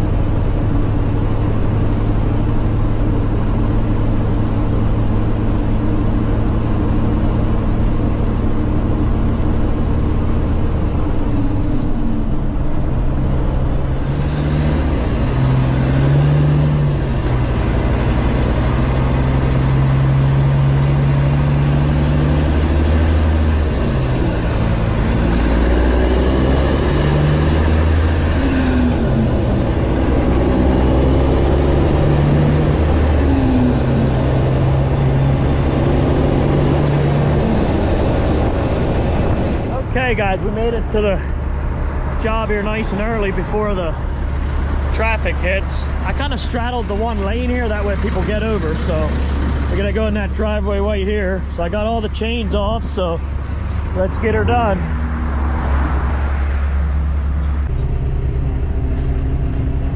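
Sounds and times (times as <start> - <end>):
diesel truck engine under load: 0.0 - 59.9.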